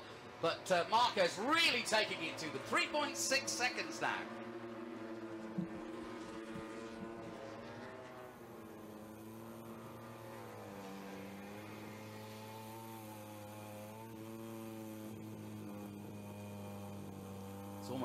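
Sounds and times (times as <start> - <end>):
race motorcycle engines revving: 0.0 - 18.0.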